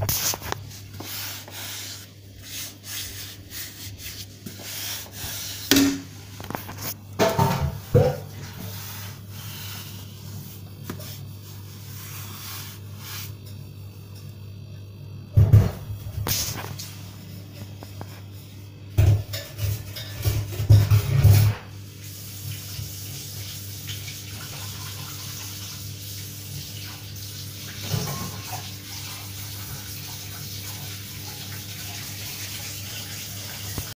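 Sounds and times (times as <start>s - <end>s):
appliance electrical hum: 0.0s - 34.0s.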